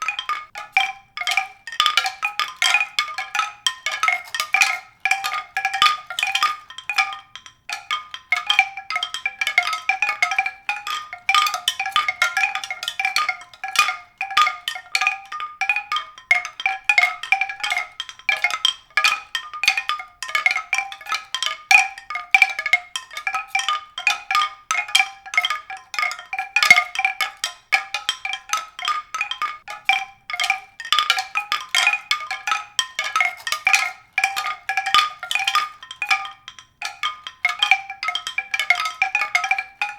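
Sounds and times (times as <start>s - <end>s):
mallet percussion notes: 0.0s - 39.9s.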